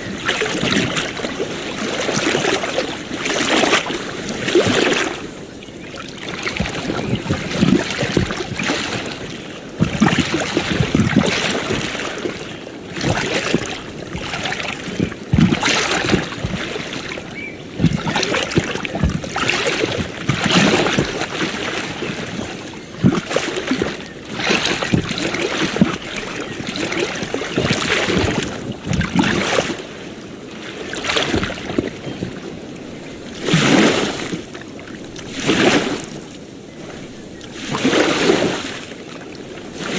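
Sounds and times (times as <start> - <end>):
ocean waves washing ashore: 0.0 - 39.9.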